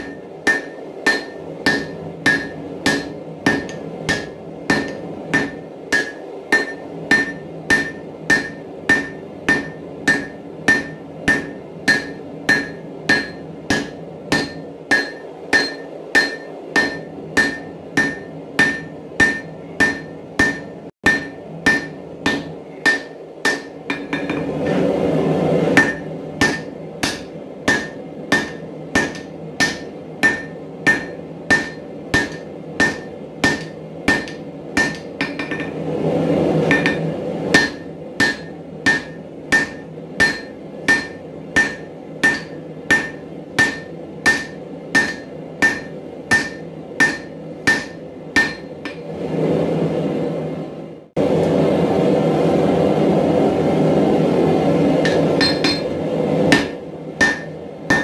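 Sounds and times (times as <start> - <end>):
hammer ringing on anvil: 0.0 - 24.8, 25.8 - 35.8, 36.7 - 37.0, 37.6 - 49.0, 55.0 - 55.9, 56.5 - 58.0.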